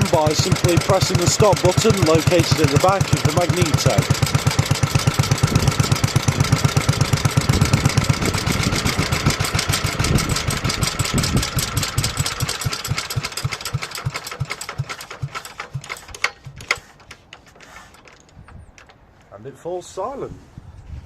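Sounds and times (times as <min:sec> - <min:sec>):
stationary engine chuffing to a stop: 0:00.0 - 0:19.0.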